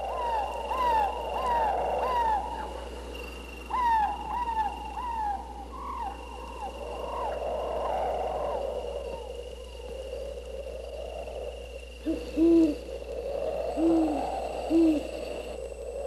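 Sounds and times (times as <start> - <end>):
owl hooting: 0.0 - 16.0.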